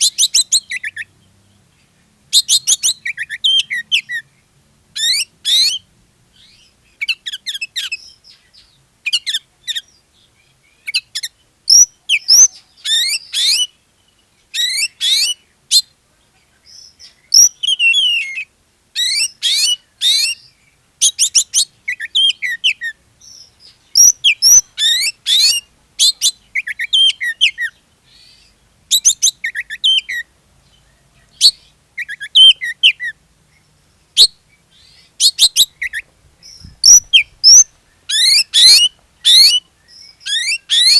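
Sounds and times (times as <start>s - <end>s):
magpie-robin singing: 0.0s - 40.9s.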